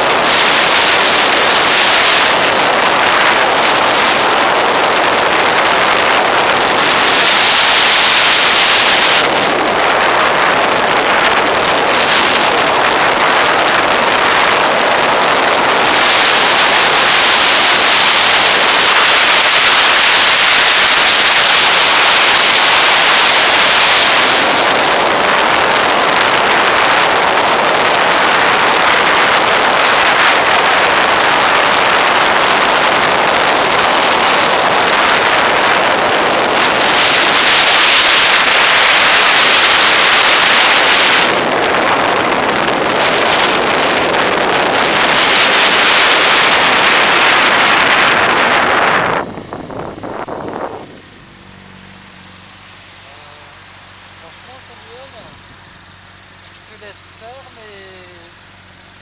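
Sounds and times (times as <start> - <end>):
motorcycle engine and road noise: 0.0 - 59.0
wind rush on microphone: 0.0 - 59.0.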